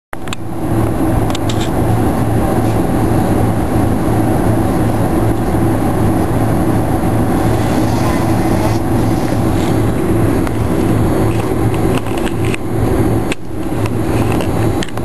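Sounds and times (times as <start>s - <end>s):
jet engines droning in cabin: 0.2s - 15.0s
low hum: 0.2s - 15.0s.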